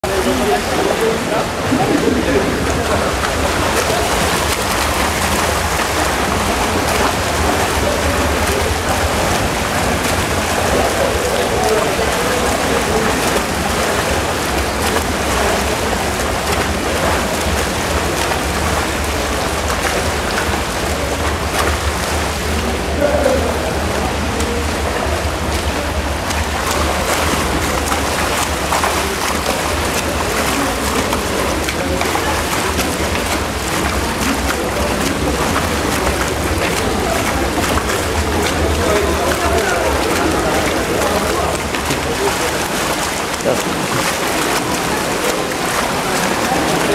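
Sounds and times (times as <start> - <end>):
pool water splashing from swimmers: 0.0 - 46.9.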